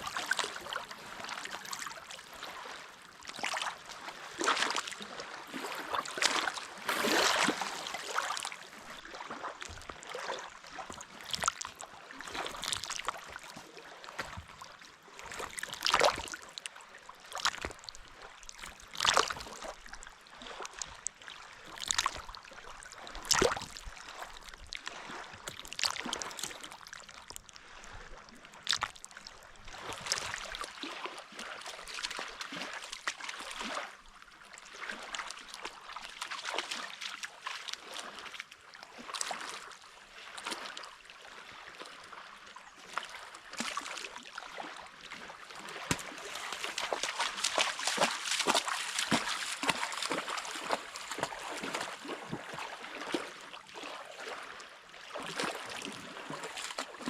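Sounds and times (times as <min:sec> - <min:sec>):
water lapping and splashing: 0:00.0 - 0:57.0.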